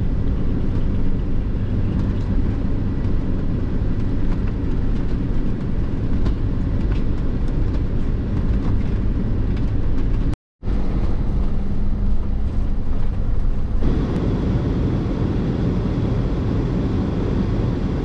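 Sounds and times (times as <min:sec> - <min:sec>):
road and engine noise in cab: 0:00.0 - 0:18.0.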